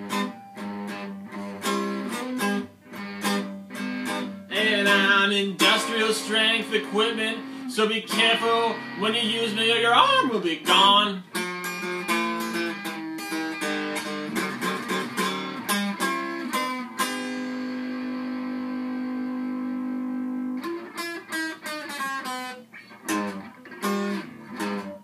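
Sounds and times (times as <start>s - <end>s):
blues guitar picking: 0.0s - 25.0s.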